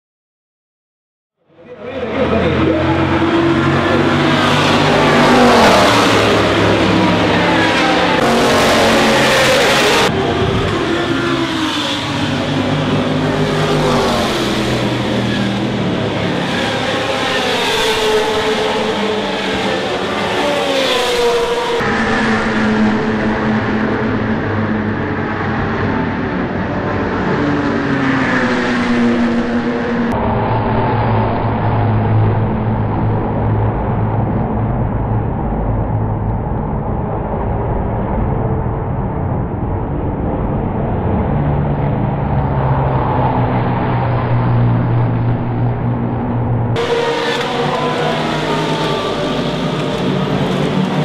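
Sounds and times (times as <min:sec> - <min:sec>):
race cars passing: 0:01.5 - 0:51.0.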